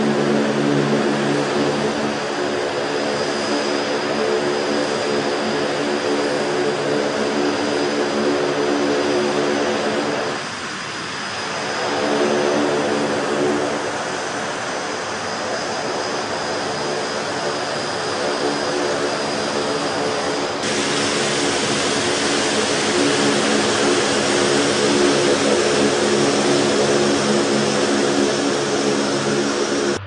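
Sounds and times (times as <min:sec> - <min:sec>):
jet turbine engines running: 0:00.0 - 0:30.0.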